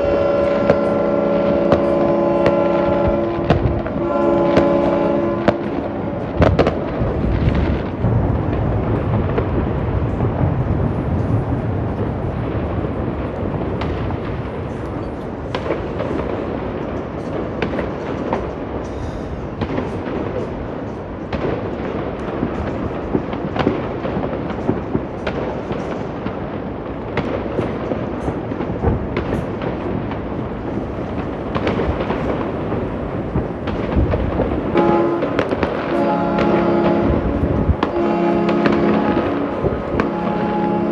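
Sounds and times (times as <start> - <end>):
distant fireworks rumble: 0.0 - 40.9
fireworks bangs and crackles: 0.0 - 40.9.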